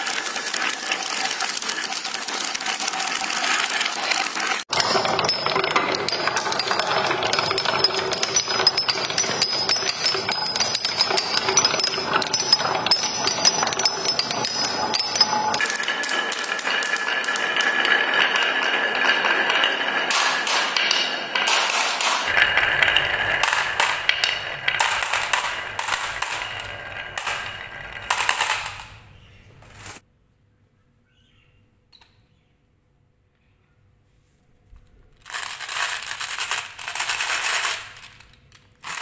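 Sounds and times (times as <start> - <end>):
marbles clattering down wooden track: 0.0 - 30.0, 35.2 - 39.0.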